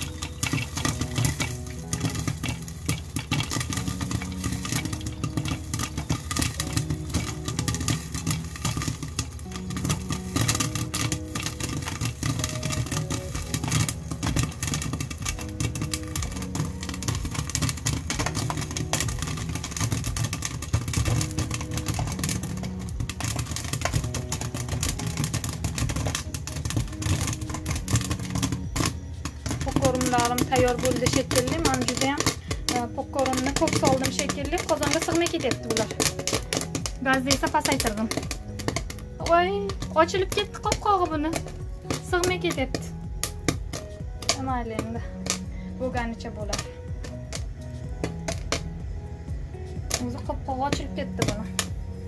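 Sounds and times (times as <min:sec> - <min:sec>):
popcorn popping in a pan: 0:00.0 - 0:52.0.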